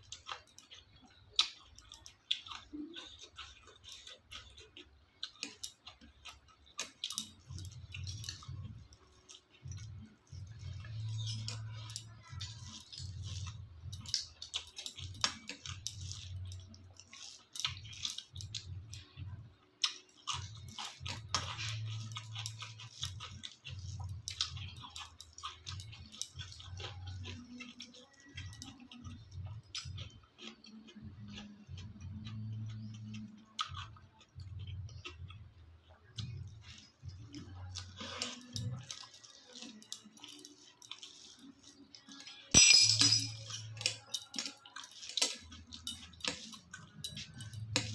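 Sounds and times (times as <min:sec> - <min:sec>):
chewing and mouth smacks: 0:00.0 - 0:42.5, 0:43.4 - 0:47.9.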